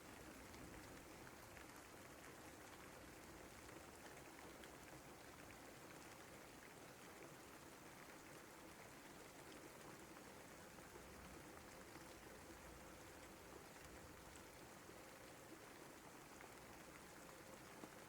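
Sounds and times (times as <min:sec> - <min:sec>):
steady rain patter: 0:00.0 - 0:18.0.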